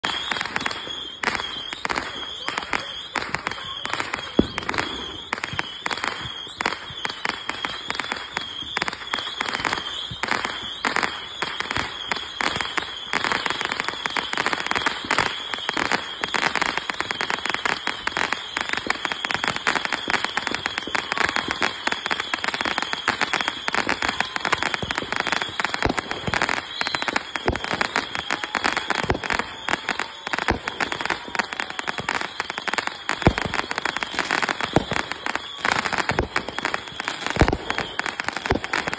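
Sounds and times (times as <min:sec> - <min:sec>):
fireworks popping and crackling: 0:00.0 - 0:38.9.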